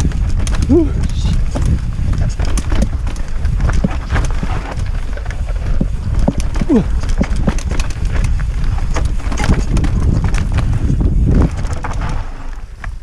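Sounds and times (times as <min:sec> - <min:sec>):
mountain bike clattering on trail: 0:00.0 - 0:13.0
wind buffeting microphone: 0:00.0 - 0:13.0.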